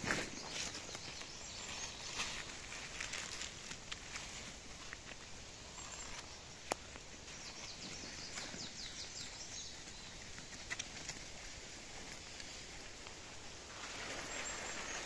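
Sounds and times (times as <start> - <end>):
forest ambience: 0.0 - 15.0
songbird singing: 0.0 - 15.0.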